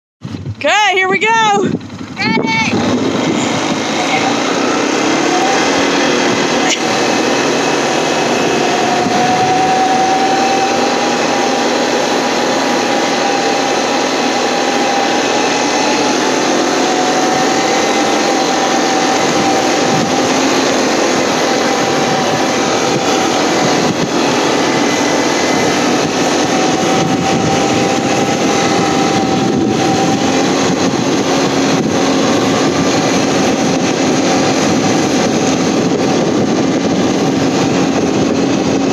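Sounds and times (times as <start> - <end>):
atv engine running: 0.2 - 38.9
engine whine: 0.2 - 38.9.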